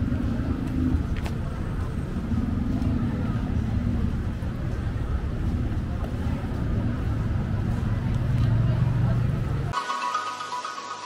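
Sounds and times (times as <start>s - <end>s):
nearby engine hum: 0.0s - 9.8s
traffic rumble: 0.0s - 9.8s.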